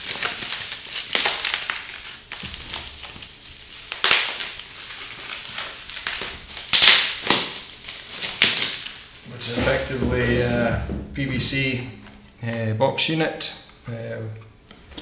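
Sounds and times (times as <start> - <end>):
plastic wrapping crinkling: 0.0 - 12.6.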